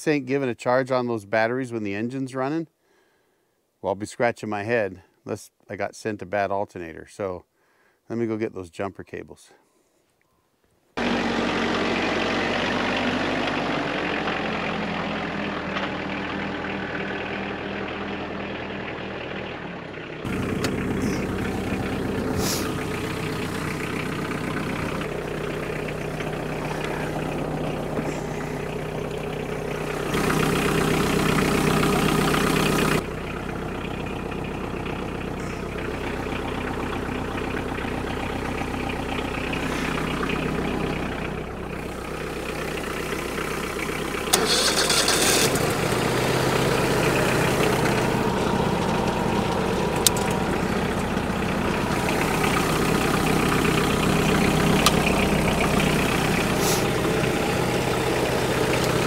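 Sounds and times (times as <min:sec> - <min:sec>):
sawmill engine cranking: 0:11.0 - 0:59.0
tractor engine idling: 0:11.0 - 0:59.0.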